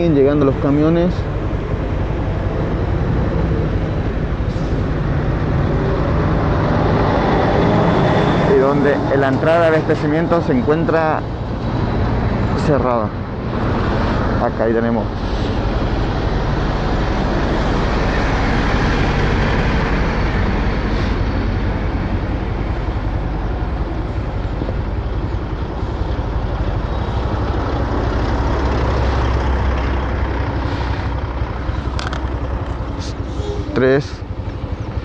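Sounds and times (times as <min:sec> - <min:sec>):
motor vehicle engine and road noise: 0:00.0 - 0:35.0.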